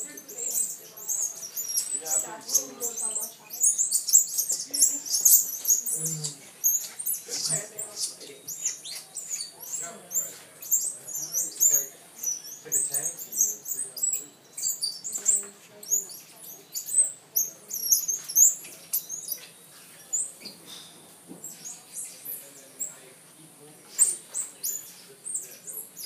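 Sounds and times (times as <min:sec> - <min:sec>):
monkeys squeaking and chirping: 0:00.0 - 0:23.0, 0:23.9 - 0:26.0.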